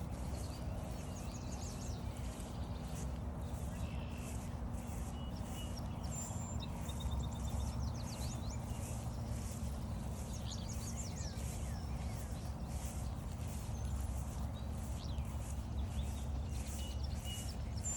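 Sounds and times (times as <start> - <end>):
footsteps on trail: 0.0 - 17.9
songbirds singing and chirping: 0.0 - 17.9.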